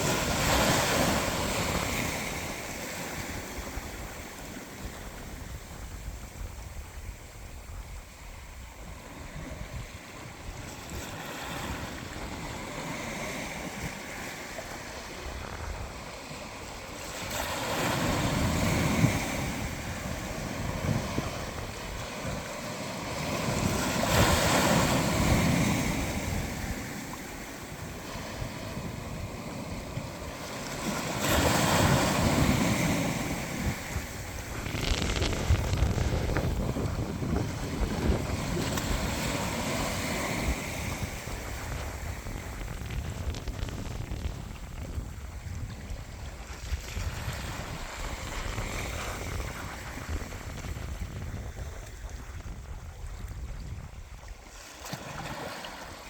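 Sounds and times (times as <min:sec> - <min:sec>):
waves washing on shore: 0:00.0 - 0:56.0.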